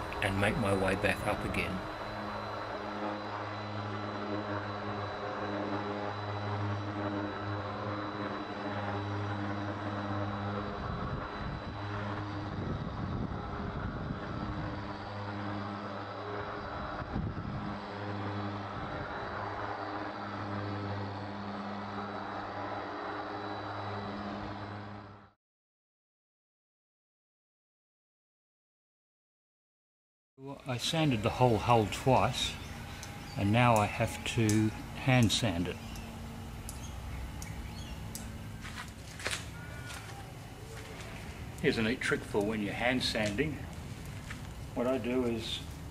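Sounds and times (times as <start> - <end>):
orbital sander on wood: 0.0 - 25.0, 30.8 - 45.9.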